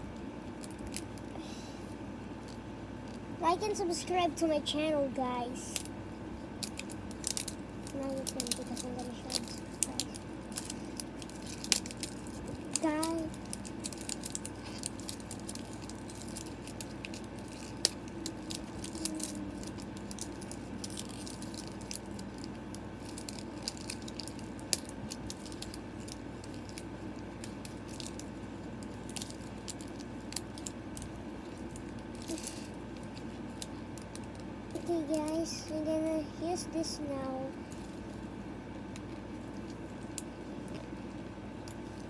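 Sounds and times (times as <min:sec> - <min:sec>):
plastic packaging crinkling: 0:00.4 - 0:01.4, 0:05.8 - 0:35.8, 0:37.5 - 0:42.0.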